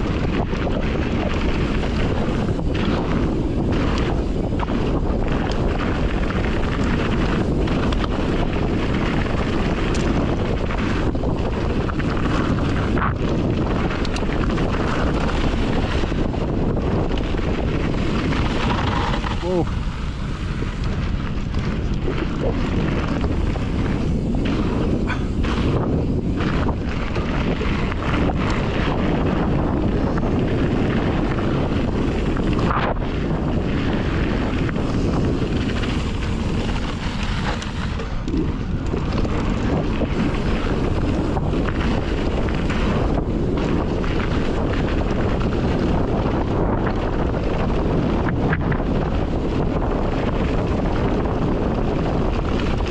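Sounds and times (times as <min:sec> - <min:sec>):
bike knocks and rattles: 0:00.0 - 0:52.9
tyres rumbling on dirt trail: 0:00.0 - 0:52.9
wind buffeting microphone: 0:00.0 - 0:52.9.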